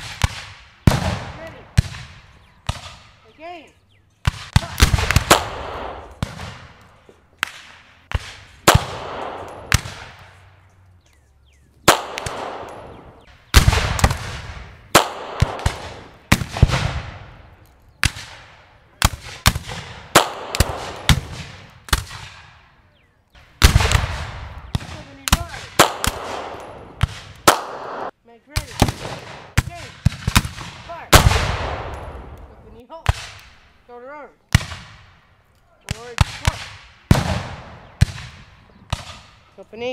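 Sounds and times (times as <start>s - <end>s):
echoing gunshots: 0.0s - 3.2s, 4.2s - 10.7s, 11.8s - 22.8s, 23.4s - 33.8s, 34.5s - 35.3s, 35.9s - 39.6s.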